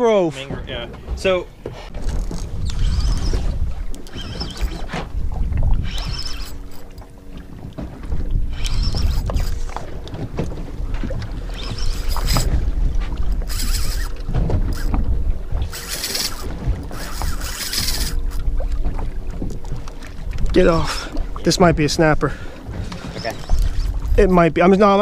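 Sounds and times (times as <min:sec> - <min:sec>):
waves splashing against hull: 0:00.0 - 0:25.0
wind buffeting microphone: 0:00.4 - 0:25.0.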